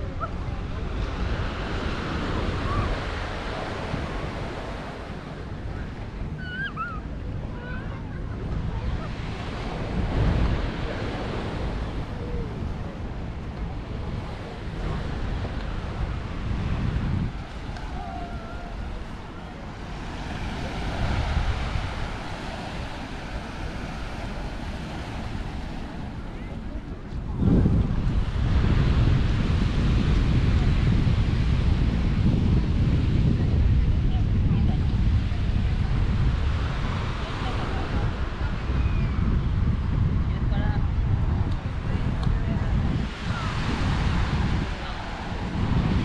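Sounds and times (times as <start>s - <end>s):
sea waves breaking on beach: 0.0s - 38.8s, 40.9s - 46.0s
wind rumbling on microphone: 0.0s - 46.0s.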